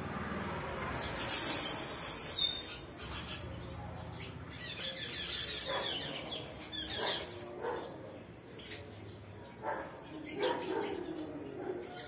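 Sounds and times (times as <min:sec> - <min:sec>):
birds chirping: 0:01.0 - 0:12.0.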